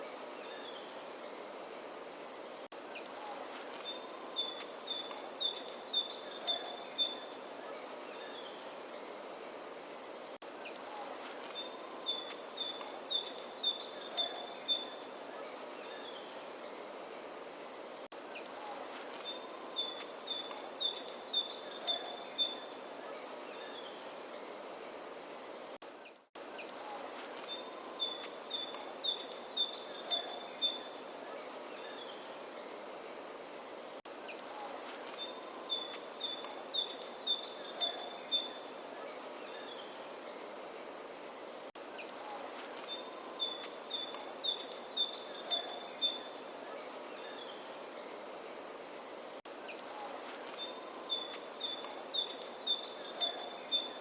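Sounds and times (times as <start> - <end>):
bird singing: 0.0 - 54.0
steady outdoor hiss: 0.0 - 54.0.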